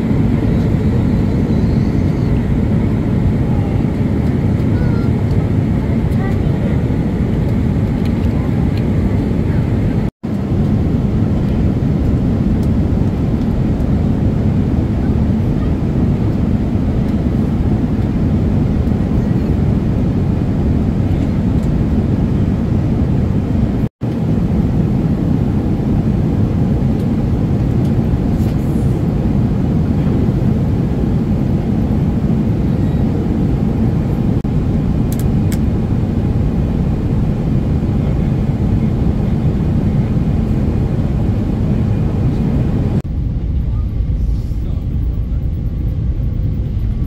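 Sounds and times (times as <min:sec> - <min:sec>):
airliner cabin rumble: 0:00.0 - 0:47.0.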